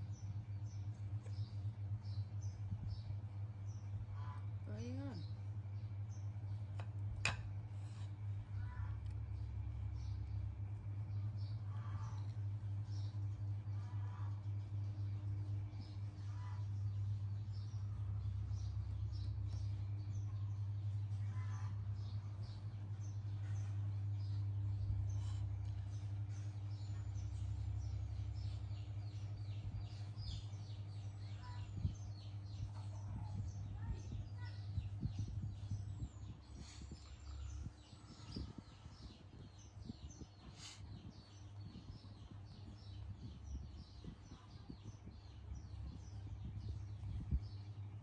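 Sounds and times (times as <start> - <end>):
low rumble: 0.0 - 48.0
small birds chirping: 0.0 - 48.0
steady low hum: 0.0 - 48.0.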